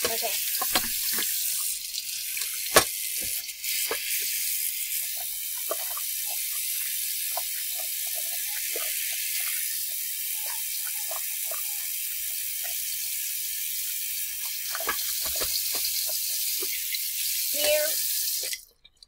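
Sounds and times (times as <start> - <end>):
water pouring into plastic bottle: 0.0 - 19.0.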